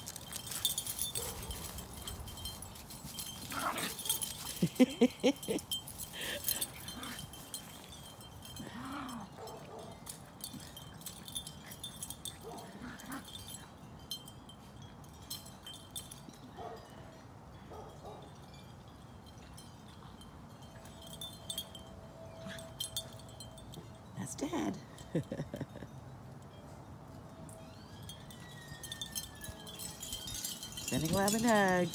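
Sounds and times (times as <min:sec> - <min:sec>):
metallic tinkling and clicking: 0:00.0 - 0:31.9.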